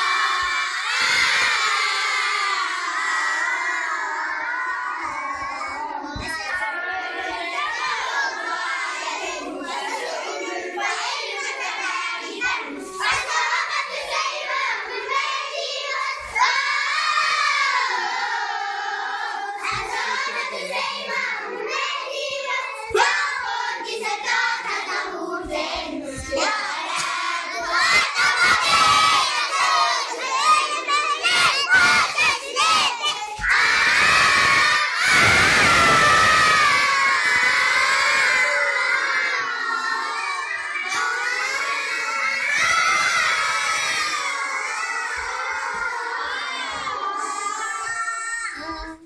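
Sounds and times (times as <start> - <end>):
children chanting in unison: 0.0 - 49.0
children shouting: 0.0 - 49.0.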